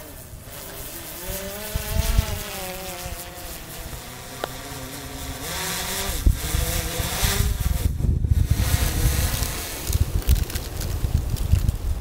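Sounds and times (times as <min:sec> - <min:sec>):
drone propellers buzzing: 0:00.0 - 0:12.0
wind rumbling on microphone: 0:00.0 - 0:12.0.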